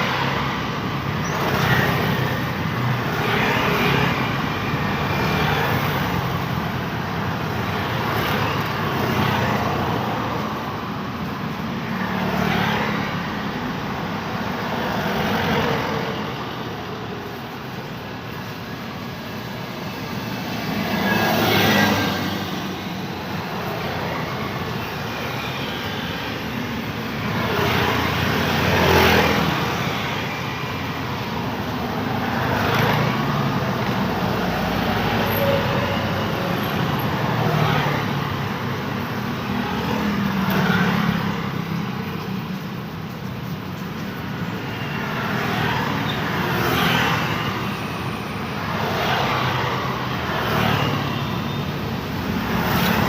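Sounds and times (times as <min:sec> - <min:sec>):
cars passing: 0:00.0 - 0:53.0
motorbikes passing: 0:00.0 - 0:53.0
steady traffic rumble: 0:00.0 - 0:53.0.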